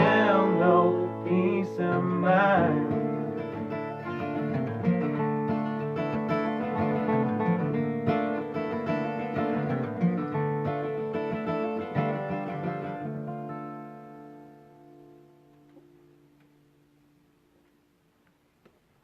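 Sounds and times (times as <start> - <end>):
acoustic guitars playing: 0.0 - 17.6.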